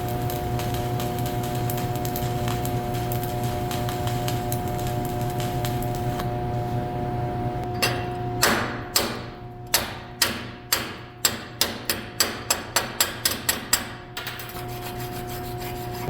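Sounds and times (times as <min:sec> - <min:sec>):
chipping hammer striking weld: 0:00.0 - 0:06.3, 0:07.7 - 0:14.4.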